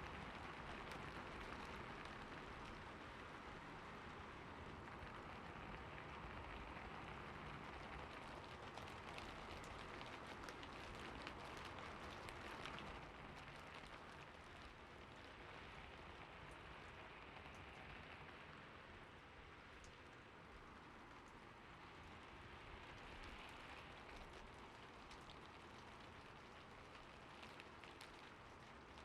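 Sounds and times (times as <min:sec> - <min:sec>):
faint rain: 0:00.0 - 0:29.0.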